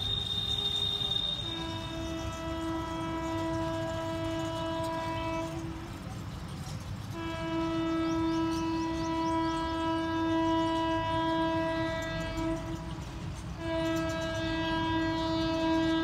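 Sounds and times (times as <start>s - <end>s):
low train rumble: 0.0s - 16.0s
train horn blasts: 0.0s - 16.0s.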